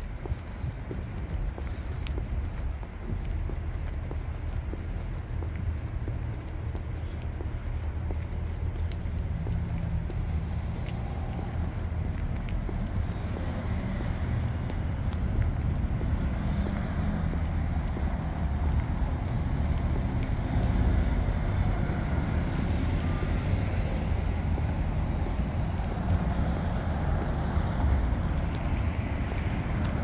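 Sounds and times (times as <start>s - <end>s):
low traffic rumble: 0.0s - 30.0s
cars driving past: 4.0s - 30.0s.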